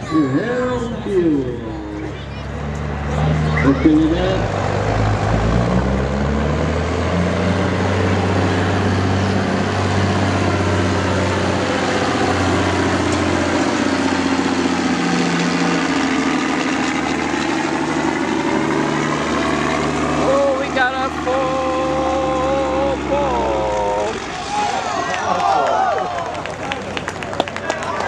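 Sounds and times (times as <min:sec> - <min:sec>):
truck diesel engine under load: 0:00.0 - 0:28.0.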